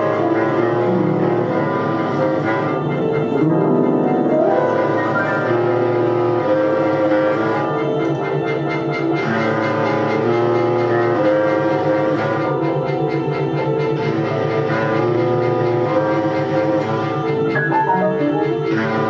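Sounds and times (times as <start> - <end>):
bass clarinet: 0.0 - 19.0
electronic synth tones: 0.0 - 19.0
piano: 0.0 - 19.0
tenor saxophone: 0.0 - 19.0.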